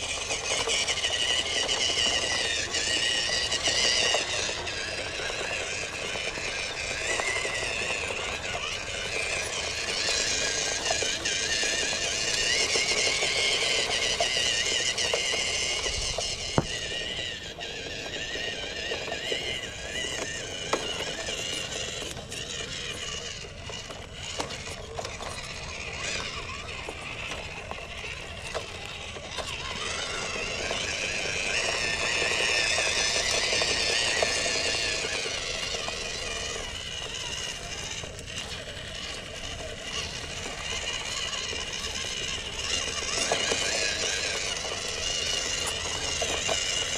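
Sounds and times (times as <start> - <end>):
toy truck motor whining: 0.0 - 46.9.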